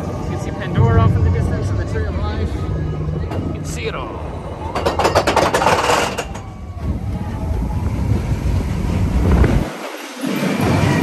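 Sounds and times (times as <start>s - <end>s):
roller coaster train rumbling: 0.0s - 11.0s.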